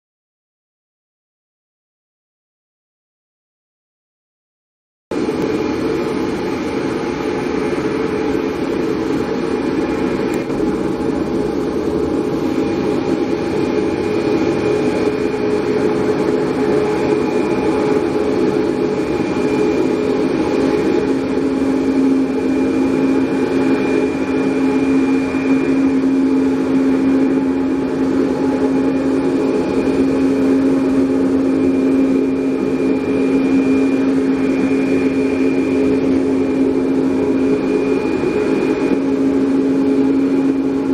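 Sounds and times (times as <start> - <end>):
deep steady drone: 5.1 - 40.9
turboprop engine whine: 5.1 - 40.9.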